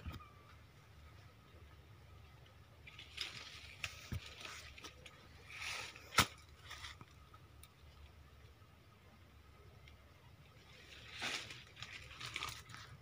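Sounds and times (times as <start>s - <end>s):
leaves and undergrowth rustling: 0.9s - 8.5s, 9.7s - 13.0s.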